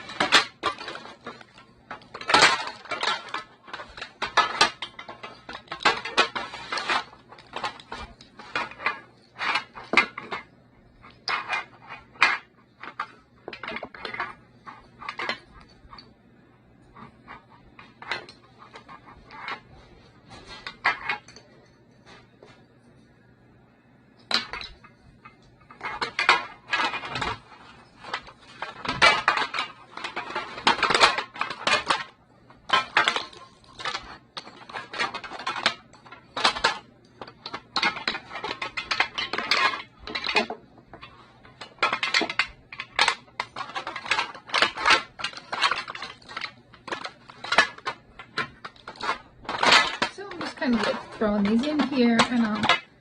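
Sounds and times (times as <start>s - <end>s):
small objects clicking and clattering: 0.0s - 16.2s, 16.8s - 22.7s, 24.1s - 53.0s.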